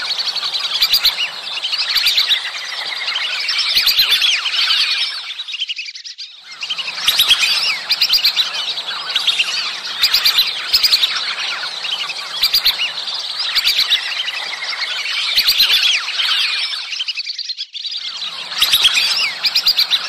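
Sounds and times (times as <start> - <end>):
whistling ducks chirping: 0.0 - 20.0.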